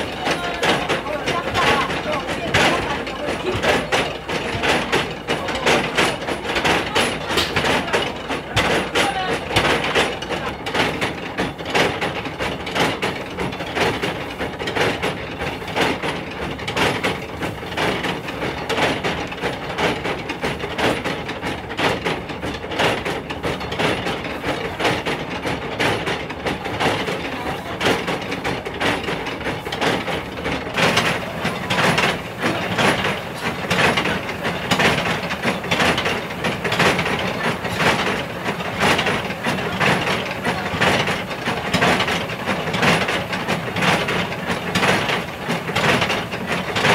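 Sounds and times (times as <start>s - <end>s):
stamp mill pestles pounding: 0.0s - 46.9s.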